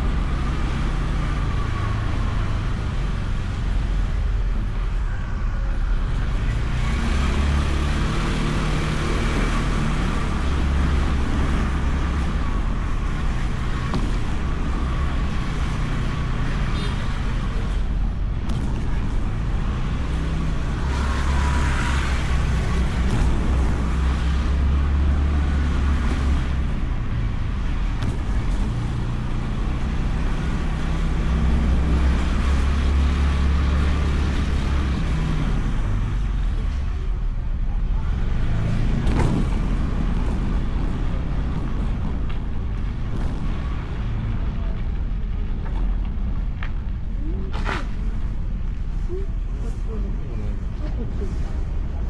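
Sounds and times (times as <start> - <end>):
road and air noise: 0.0 - 52.0.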